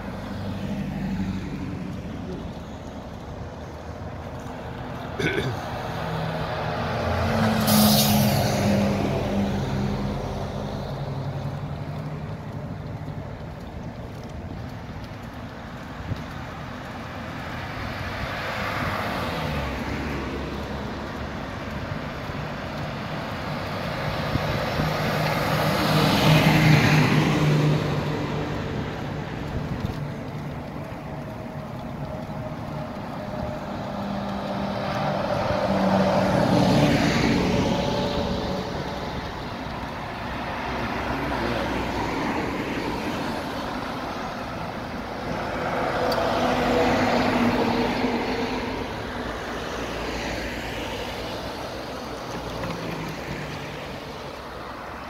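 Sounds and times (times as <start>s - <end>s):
car towing a trailer: 0.0s - 55.0s
road traffic passing: 0.0s - 55.0s.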